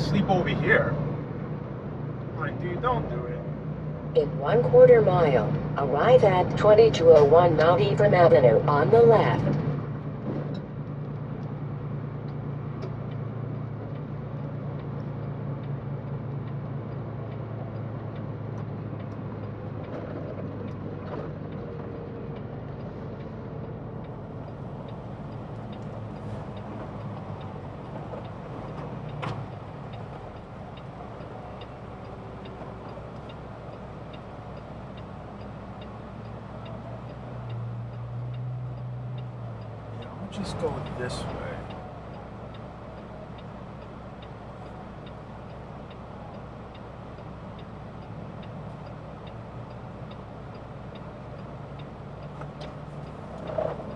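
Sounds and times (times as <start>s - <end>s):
truck engine running: 0.0s - 53.9s
faint regular ticking: 1.4s - 53.9s.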